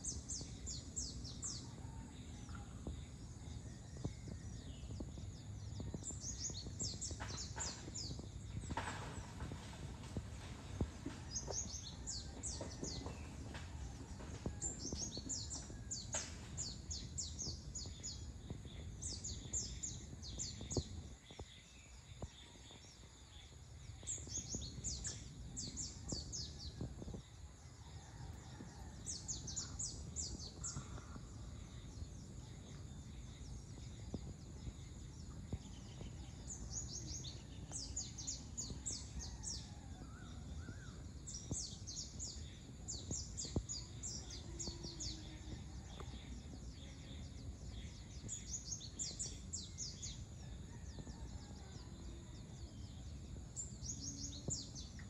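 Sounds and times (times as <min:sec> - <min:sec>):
birds chirping: 0:00.0 - 0:27.5, 0:28.5 - 0:50.9
low background rumble: 0:00.0 - 0:55.0.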